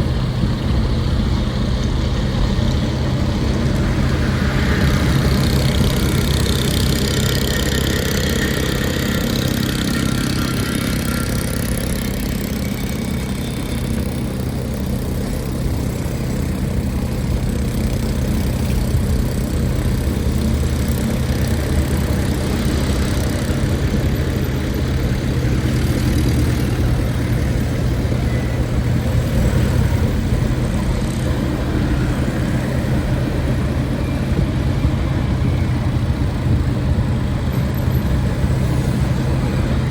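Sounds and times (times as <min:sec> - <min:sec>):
low engine hum: 0:00.0 - 0:39.9
passing traffic: 0:00.0 - 0:39.9.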